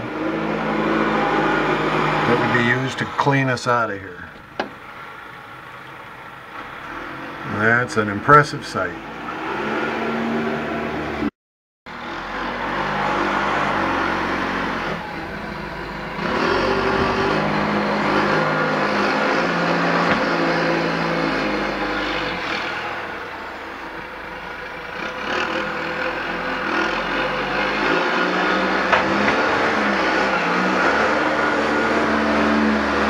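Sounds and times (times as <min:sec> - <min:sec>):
wheel loader diesel engine revving: 0:00.0 - 0:11.3, 0:11.9 - 0:33.0.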